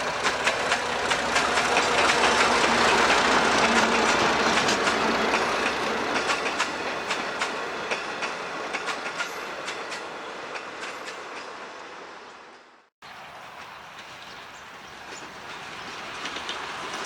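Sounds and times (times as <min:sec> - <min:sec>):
train wheels clicking over rail joints: 0:00.0 - 0:11.8, 0:13.4 - 0:17.0.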